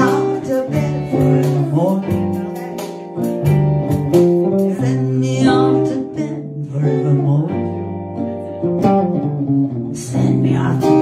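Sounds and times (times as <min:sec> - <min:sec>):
sustained keyboard chords: 0:00.0 - 0:09.4
acoustic guitar strumming: 0:00.0 - 0:11.0.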